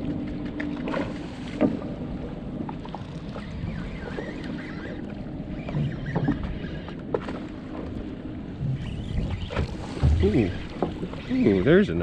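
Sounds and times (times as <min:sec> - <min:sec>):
boat engine humming: 0:00.0 - 0:12.0
sea water against hull: 0:00.0 - 0:12.0.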